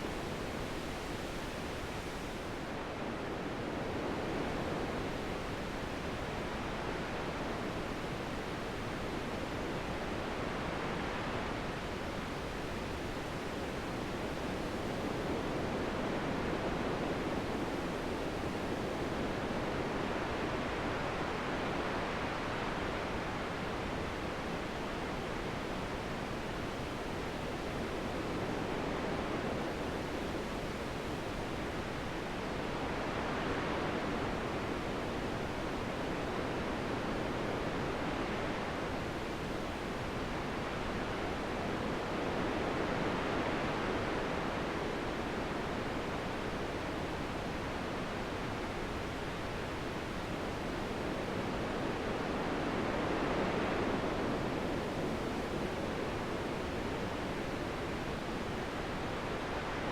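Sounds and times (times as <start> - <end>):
gusting wind: 0.0 - 59.9.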